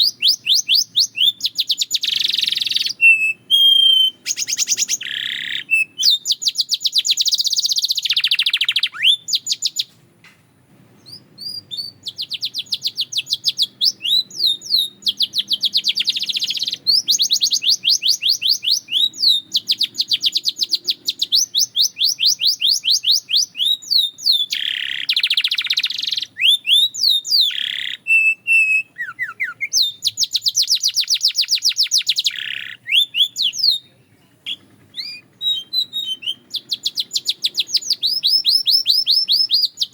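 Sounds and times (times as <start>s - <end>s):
canary singing trills: 0.0s - 10.0s, 11.0s - 39.9s.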